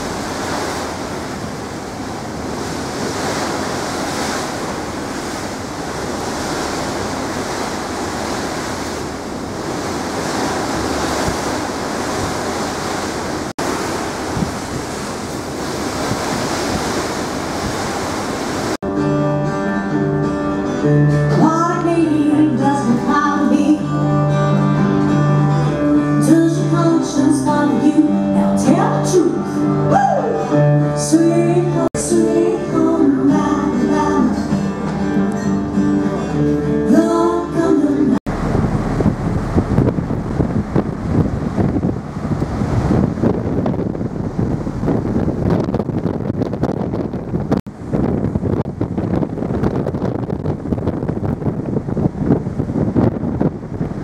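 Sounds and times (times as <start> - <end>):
sea noise: 0.0 - 54.0
wind: 0.0 - 54.0.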